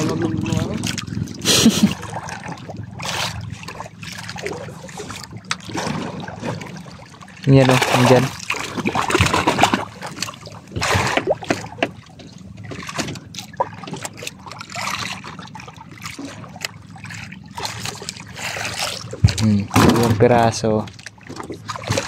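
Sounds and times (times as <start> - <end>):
knocks and clicks on boat: 0.0 - 22.0
water sloshing against boat: 0.0 - 22.0.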